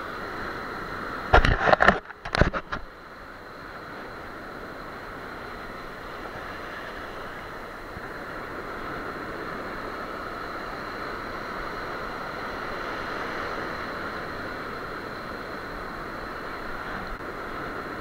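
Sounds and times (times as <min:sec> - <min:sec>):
surf waves breaking on sand: 0:00.0 - 0:18.0.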